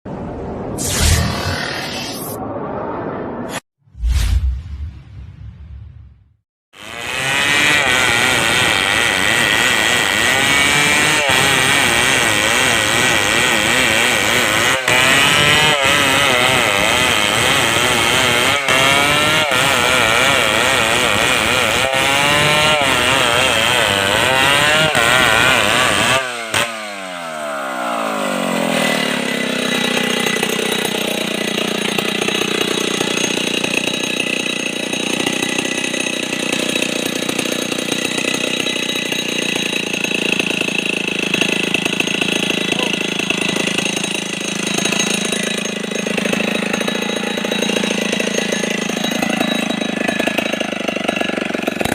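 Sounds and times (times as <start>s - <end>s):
chainsaw running: 6.8s - 51.9s.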